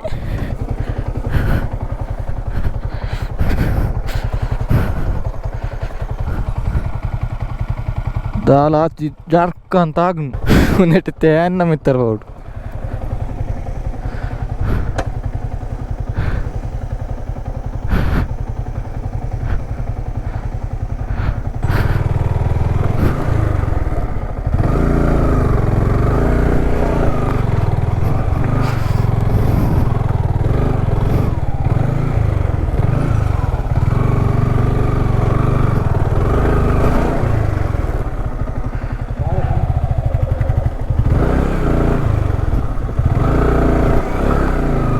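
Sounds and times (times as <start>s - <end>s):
motorcycle engine under load: 0.0s - 44.9s.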